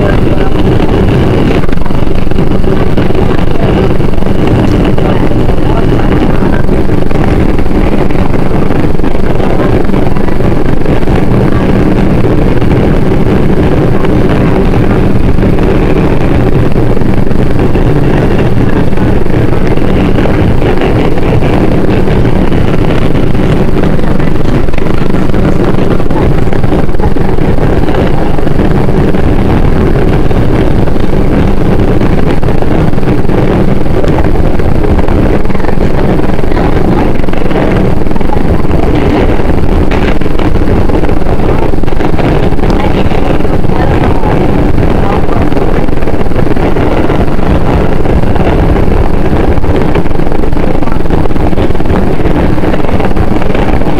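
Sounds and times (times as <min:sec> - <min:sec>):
subway train running through tunnel: 0:00.0 - 0:53.9.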